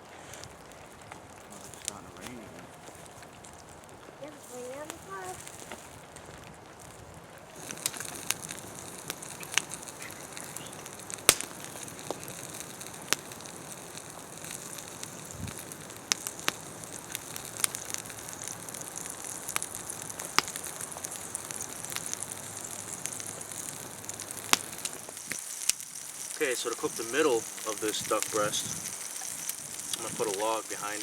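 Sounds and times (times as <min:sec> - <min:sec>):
fat popping and crackling: 0:00.0 - 0:31.0
meat sizzling: 0:00.0 - 0:31.0.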